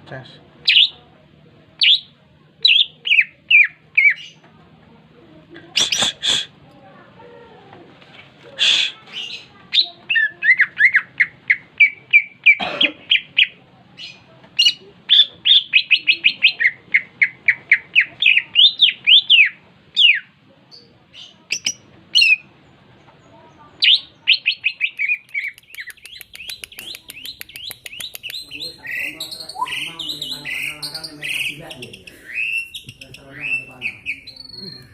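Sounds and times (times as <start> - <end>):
songbird chirping: 0.6 - 6.8, 9.1 - 34.9.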